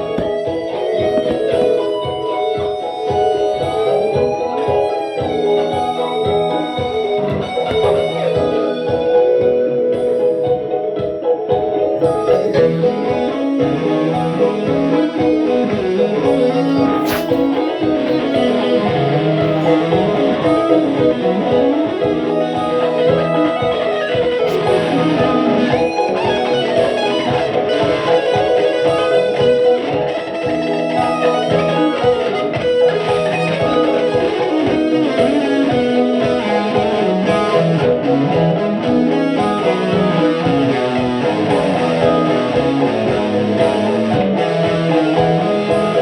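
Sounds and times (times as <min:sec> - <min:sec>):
electric guitar playing: 0:00.0 - 0:46.0.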